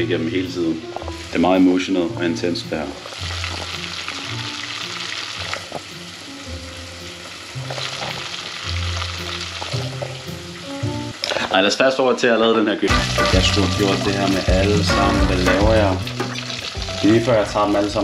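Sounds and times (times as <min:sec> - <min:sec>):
bass line background music: 0:00.0 - 0:11.2, 0:12.9 - 0:18.0
oil sizzling in a pot: 0:00.0 - 0:11.9, 0:12.9 - 0:18.0.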